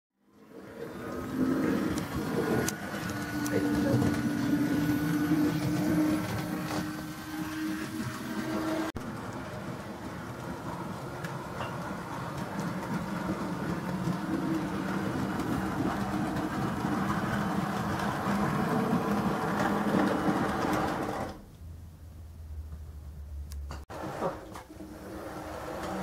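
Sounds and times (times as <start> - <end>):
wheels clicking over rails: 0.4 - 21.5, 23.7 - 26.0.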